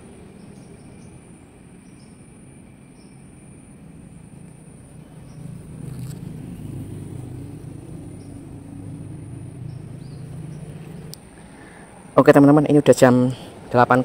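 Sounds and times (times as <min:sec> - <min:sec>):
vehicle rumbling over bridge: 0:00.0 - 0:12.2
high insect trill: 0:00.0 - 0:12.5.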